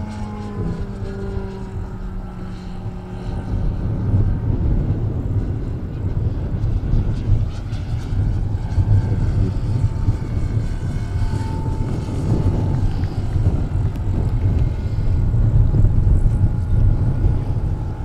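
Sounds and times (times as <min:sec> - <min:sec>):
loud uneven low rumble: 0:00.0 - 0:18.0
model plane engine drone: 0:00.0 - 0:18.0.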